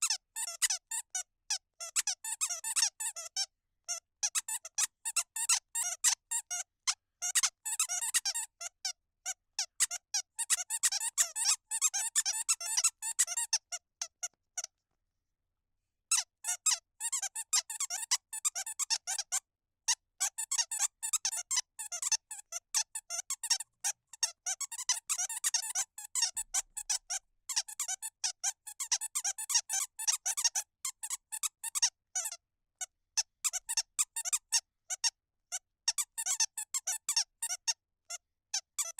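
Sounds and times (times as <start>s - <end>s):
squeaky dog toy squeaking: 0.0s - 14.7s, 16.1s - 38.9s.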